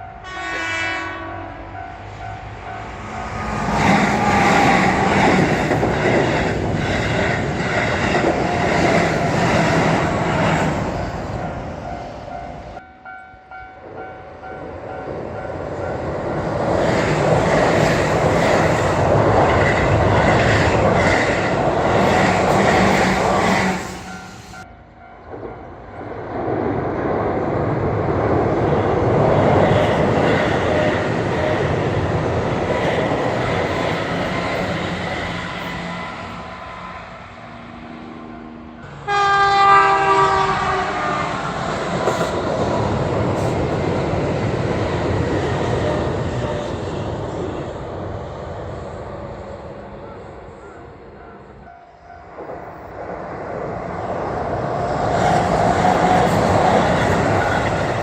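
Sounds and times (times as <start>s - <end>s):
electric trains passing: 0.0s - 58.0s.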